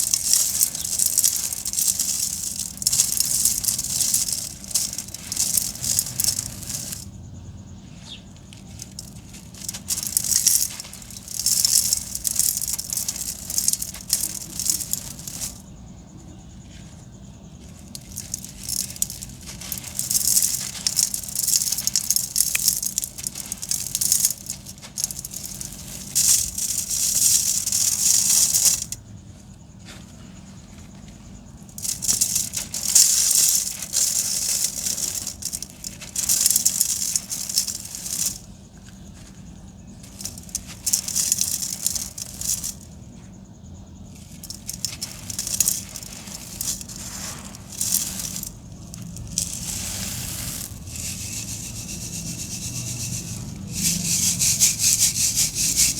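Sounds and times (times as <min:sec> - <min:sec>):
grains pattering down: 0:00.0 - 0:07.2, 0:08.4 - 0:15.8, 0:16.8 - 0:29.1, 0:31.0 - 0:55.9
sand-cement chunks crumbling: 0:00.0 - 0:07.2, 0:07.9 - 0:15.9, 0:16.5 - 0:55.9.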